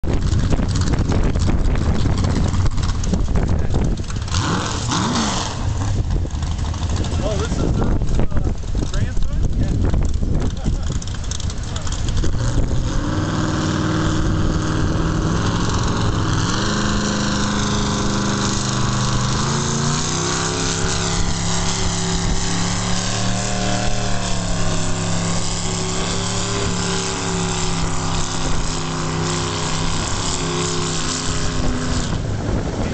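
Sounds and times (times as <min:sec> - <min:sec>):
tractor engine under full load: 0:00.0 - 0:32.9.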